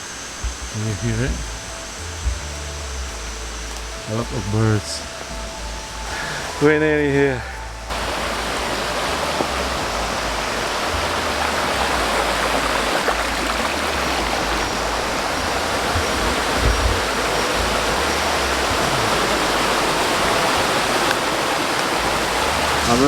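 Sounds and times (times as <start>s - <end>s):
low thumps: 0.0s - 23.0s
waterfall rushing: 3.5s - 23.0s.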